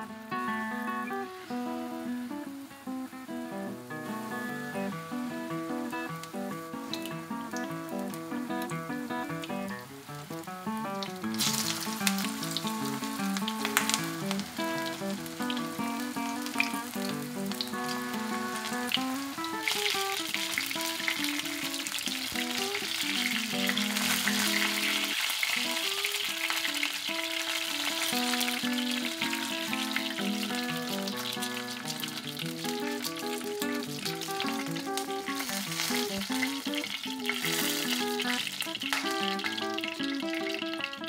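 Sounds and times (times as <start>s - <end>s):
plucked melodic background music: 0.0s - 41.0s
fish sizzling in frying pan oil: 0.8s - 41.0s.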